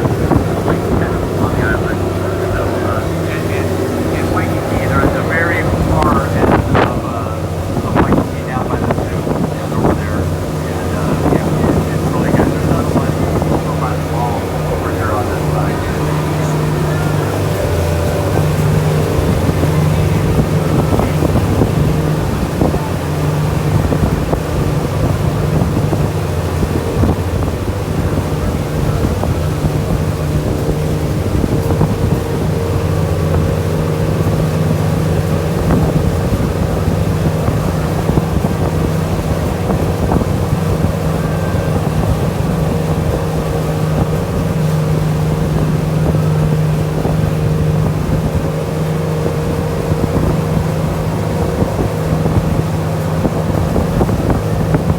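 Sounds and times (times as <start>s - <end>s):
boat engine drone: 0.0s - 54.9s
wind on microphone: 0.0s - 54.9s.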